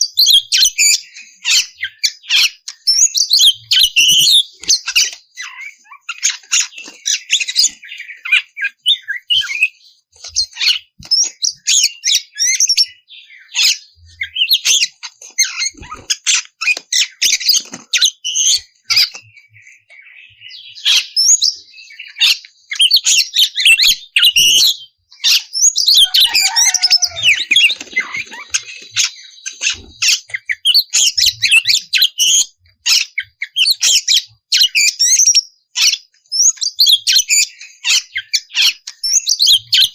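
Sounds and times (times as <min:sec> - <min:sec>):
songbird whistling and scratchy notes: 0:00.0 - 0:39.9.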